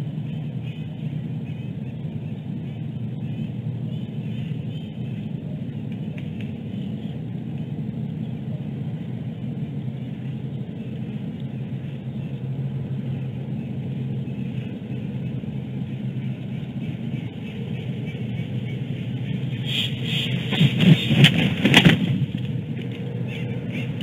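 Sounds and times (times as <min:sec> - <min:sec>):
low rumble and hiss: 0:00.0 - 0:24.0.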